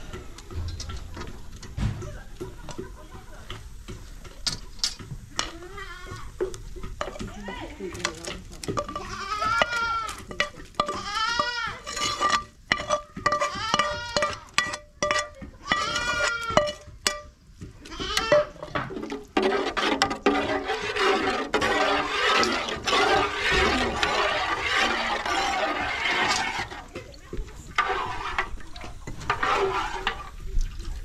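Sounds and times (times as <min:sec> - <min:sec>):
soup being stirred: 0:03.5 - 0:31.0
metal spoon scraping frying pan: 0:05.4 - 0:30.5.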